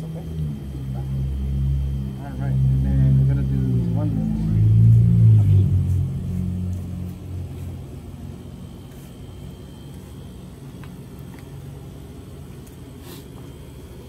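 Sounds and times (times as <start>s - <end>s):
road traffic rumble: 0.0s - 13.5s.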